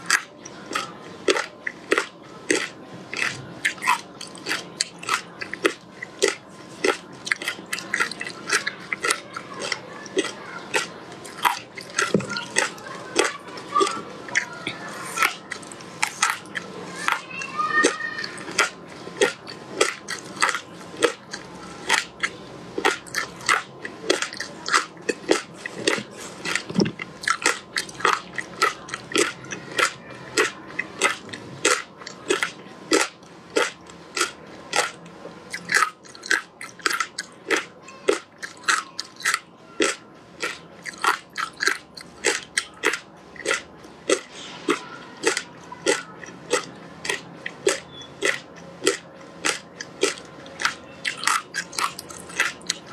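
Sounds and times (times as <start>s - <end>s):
chewing frozen fruit: 0.0s - 52.9s.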